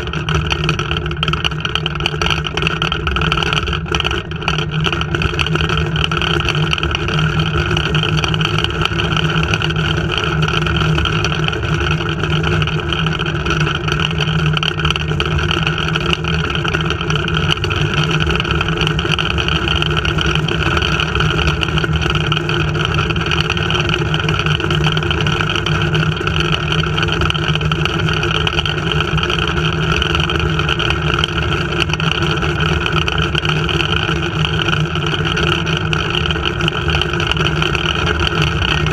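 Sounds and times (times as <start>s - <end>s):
pulleys humming along cable: 0.0s - 38.9s.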